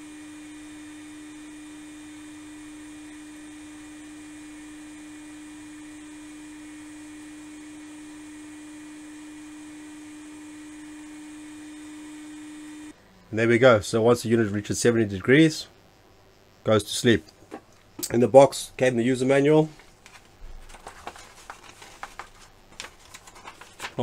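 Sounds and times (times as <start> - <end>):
blower fan humming: 0.0 - 15.9, 16.6 - 24.0.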